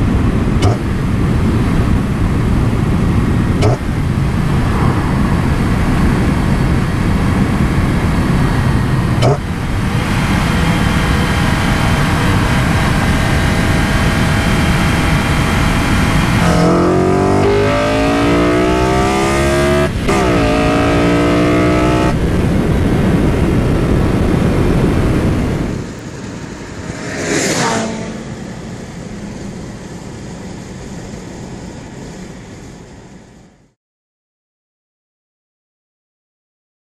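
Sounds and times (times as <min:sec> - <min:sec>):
car engine accelerating: 0:00.0 - 0:33.2
wind and road noise: 0:00.0 - 0:33.8
short rushing sweep: 0:00.4 - 0:01.6, 0:02.4 - 0:32.2.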